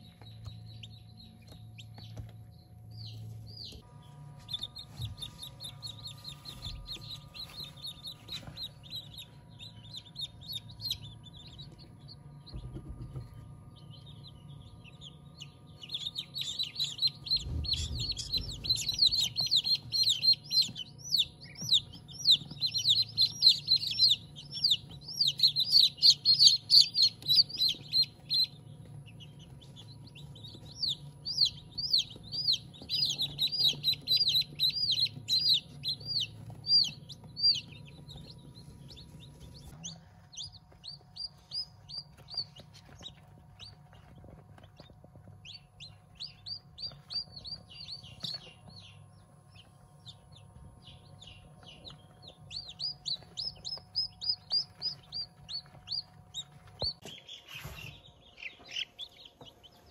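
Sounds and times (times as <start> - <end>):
birds chirping: 0.0 - 59.9
low steady hum: 0.0 - 59.9.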